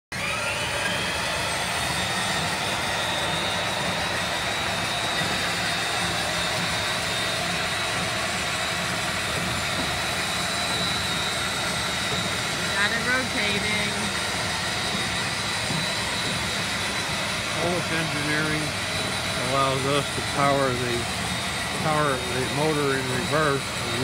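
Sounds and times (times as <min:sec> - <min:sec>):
electric drill whining: 0:00.1 - 0:24.0.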